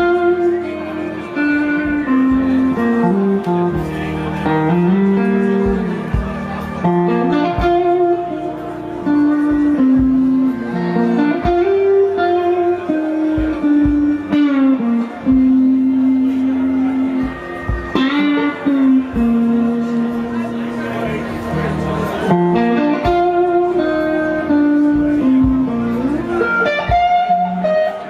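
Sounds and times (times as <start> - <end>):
electric guitar bending notes: 0.0 - 28.0.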